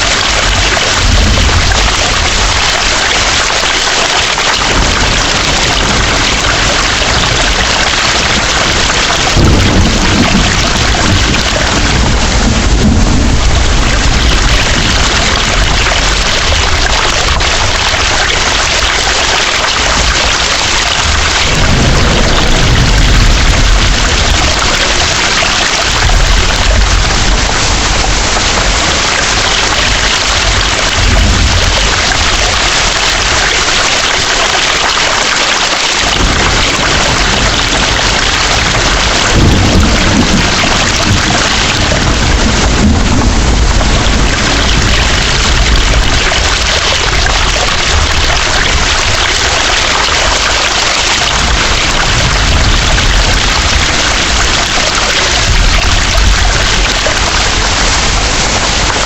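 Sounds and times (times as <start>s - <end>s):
low rolling thunder: 0.0s - 35.3s, 36.0s - 59.0s
heavy rain pouring: 0.0s - 59.0s.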